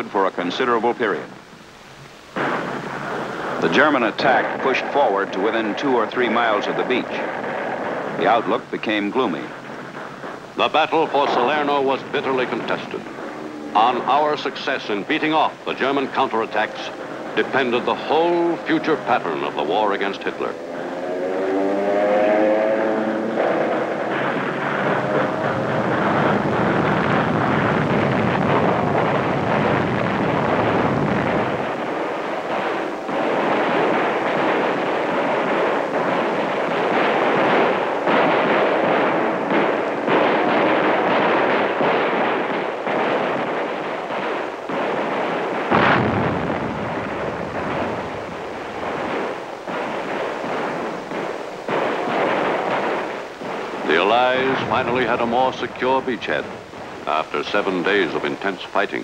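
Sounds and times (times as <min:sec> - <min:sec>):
explosions: 0:00.0 - 0:59.0
gunfire: 0:00.0 - 0:59.0
deep rumbling: 0:02.4 - 0:57.6.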